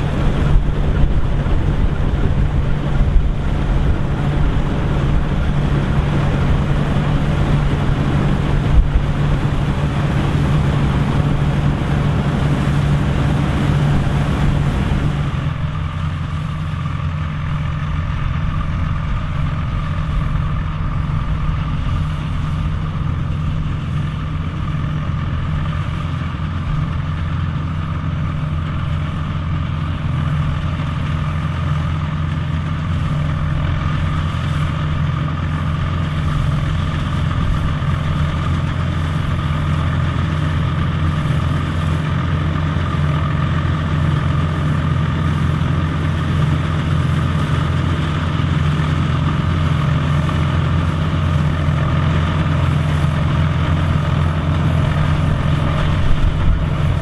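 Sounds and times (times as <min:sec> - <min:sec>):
combine machinery humming: 0:00.0 - 0:57.0
tractor diesel engine running: 0:00.0 - 0:57.0.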